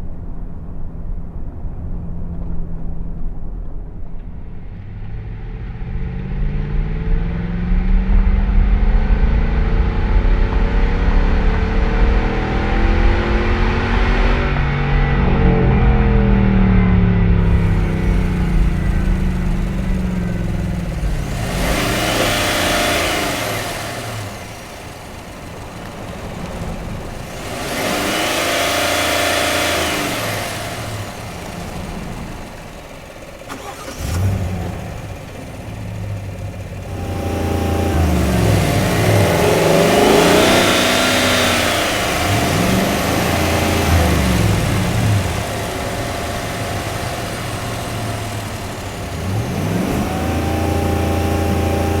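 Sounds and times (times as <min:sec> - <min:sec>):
car engine revving: 0:00.1 - 0:52.0.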